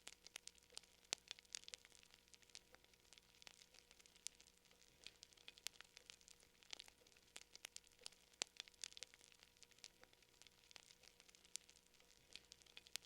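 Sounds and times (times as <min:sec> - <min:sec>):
faint wood fire crackling: 0:00.0 - 0:13.0.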